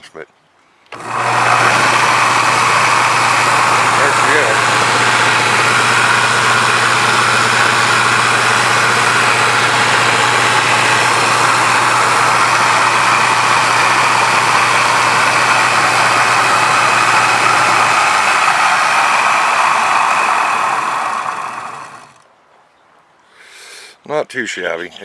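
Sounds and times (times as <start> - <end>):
belt grinder whirring: 0.9 - 22.2.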